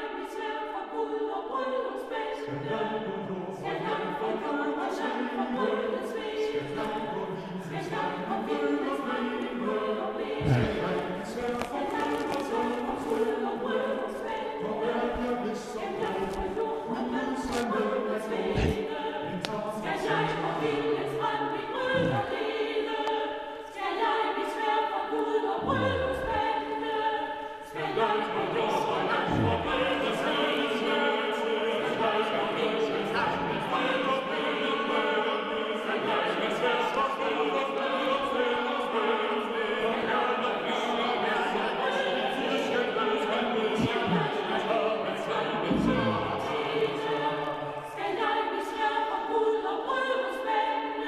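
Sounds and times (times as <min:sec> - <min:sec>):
choir singing held chords: 0:00.0 - 0:51.0.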